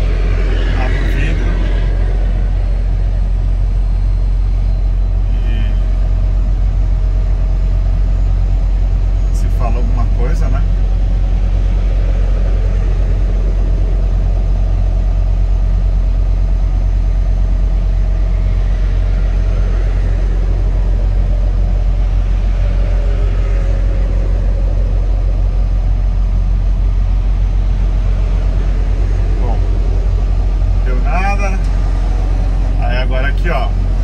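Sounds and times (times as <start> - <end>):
truck engine and road drone: 0.0 - 34.0.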